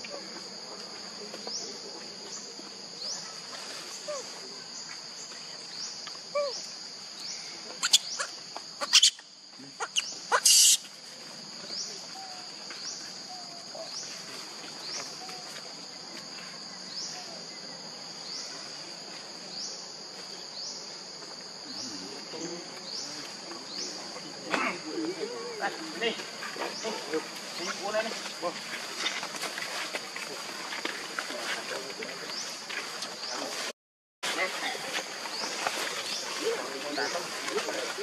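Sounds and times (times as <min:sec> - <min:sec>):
insect rising chirp: 0:02.3 - 0:33.4.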